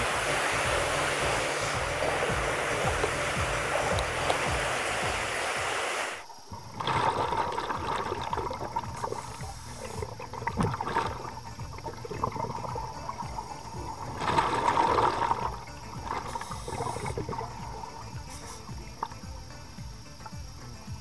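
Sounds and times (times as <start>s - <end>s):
small pops: 0.0s - 20.4s
rushing hiss: 0.0s - 21.0s
underwater bubbles gurgling: 0.0s - 21.0s.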